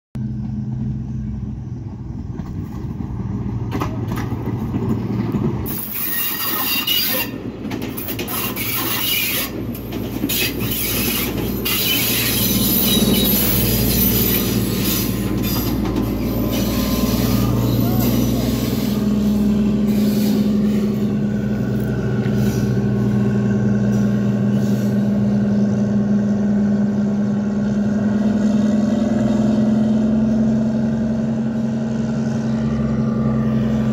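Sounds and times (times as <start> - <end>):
diesel locomotive engine drone: 0.2 - 33.9
train clanking rolling past: 0.2 - 33.9.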